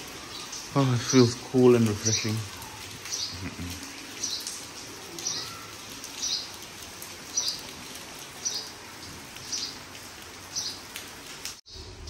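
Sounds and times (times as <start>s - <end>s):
faint rain hiss: 0.0s - 12.0s.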